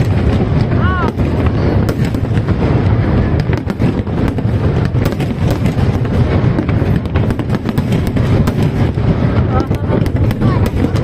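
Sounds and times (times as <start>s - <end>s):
fireworks booming: 0.0s - 11.0s
fireworks cracking: 0.0s - 11.0s.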